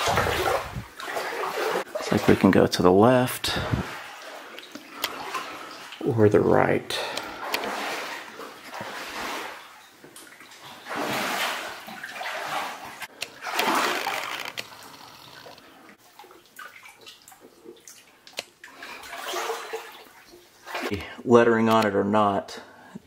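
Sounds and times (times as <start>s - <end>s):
wading strides sloshing through water: 0.0s - 21.1s.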